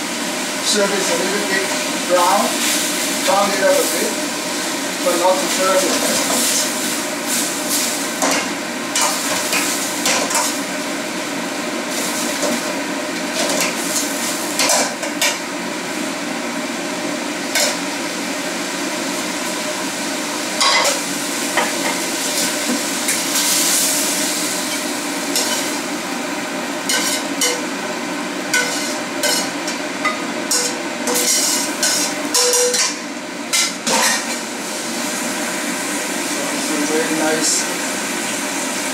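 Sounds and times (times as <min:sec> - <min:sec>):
prawns sizzling in a pan: 0:00.0 - 0:38.9.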